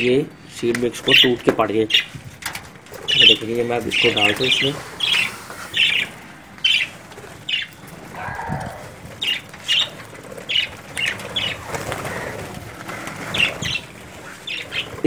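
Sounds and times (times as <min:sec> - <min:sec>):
birds flapping wings: 0:00.8 - 0:15.0.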